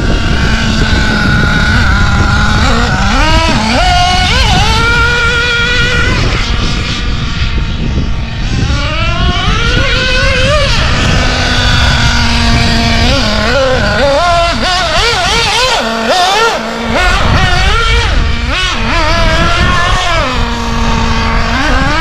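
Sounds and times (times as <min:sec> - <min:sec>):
rc buggy nitro engine revving: 0:00.0 - 0:22.0.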